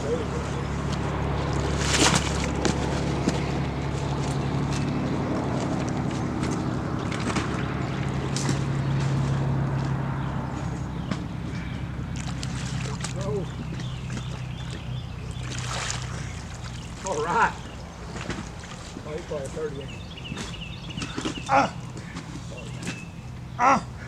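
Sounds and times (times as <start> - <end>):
fish splashing and thrashing: 0.0 - 24.0
low engine hum: 0.0 - 24.0.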